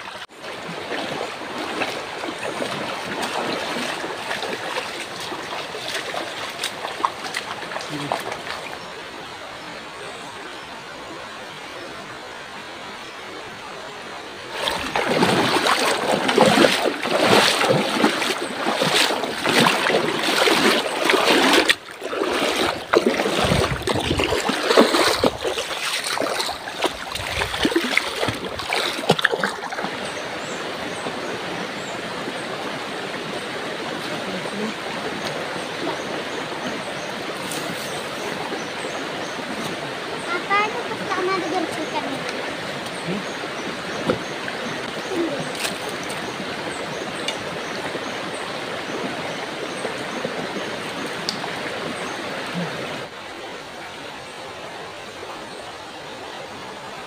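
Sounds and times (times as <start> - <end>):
river flowing: 0.0 - 57.0
footsteps splashing through water: 0.2 - 8.9, 14.5 - 52.8.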